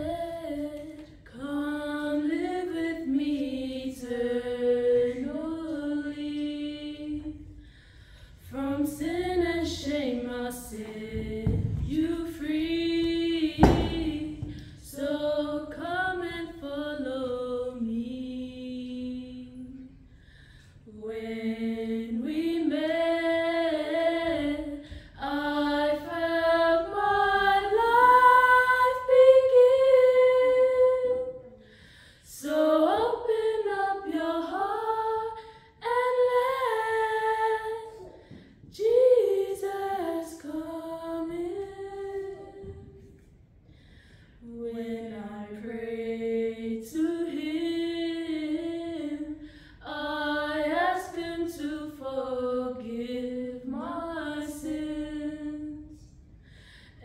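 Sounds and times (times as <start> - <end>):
voices singing a hymn a cappella: 0.0 - 20.0, 20.6 - 43.3, 44.3 - 57.0.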